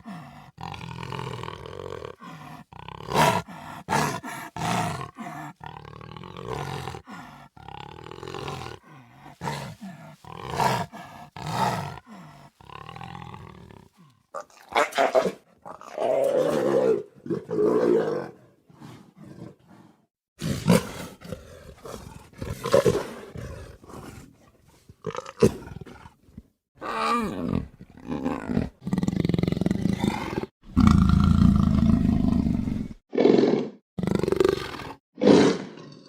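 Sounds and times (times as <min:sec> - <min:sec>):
big cat roaring and snarling: 0:00.0 - 0:24.4, 0:26.8 - 0:36.0.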